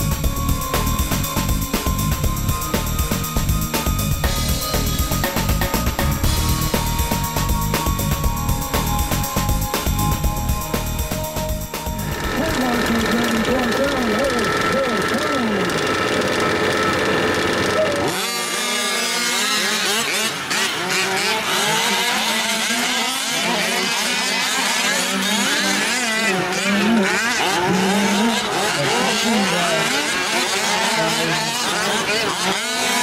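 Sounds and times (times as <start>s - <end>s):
rc truck engines revving: 0.0s - 33.0s.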